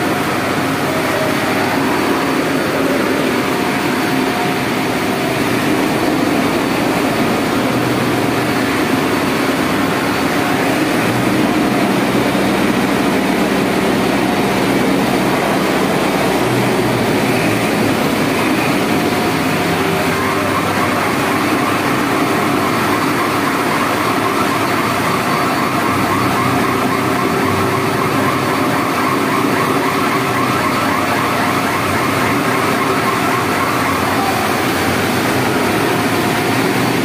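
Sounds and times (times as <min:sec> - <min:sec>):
construction machinery din: 0:00.0 - 0:37.0.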